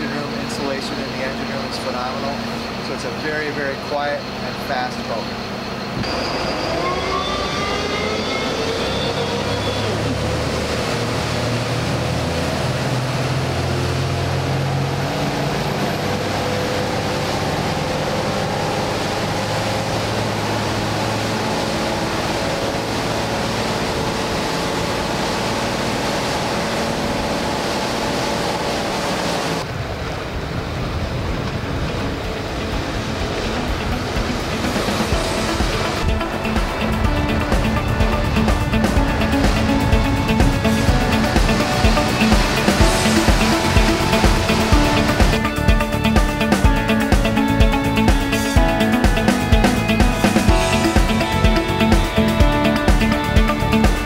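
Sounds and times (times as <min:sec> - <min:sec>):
diesel boat engines running: 0:00.0 - 0:54.0
rush of wake and wind: 0:00.0 - 0:54.0.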